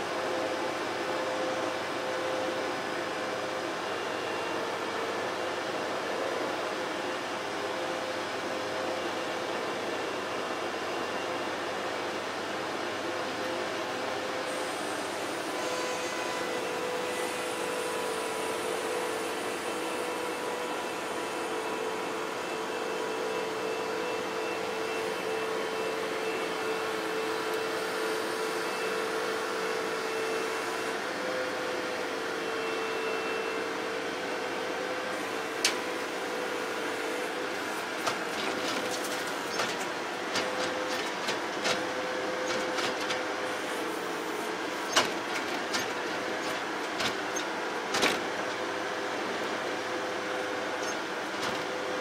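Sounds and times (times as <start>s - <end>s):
loader engine and hydraulic drone: 0.0s - 52.0s.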